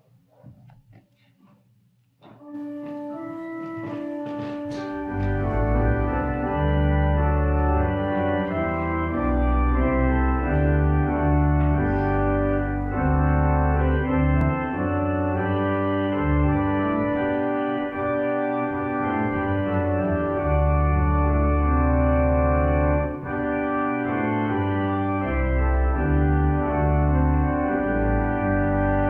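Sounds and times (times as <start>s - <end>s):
church organ playing a hymn: 2.3s - 29.0s.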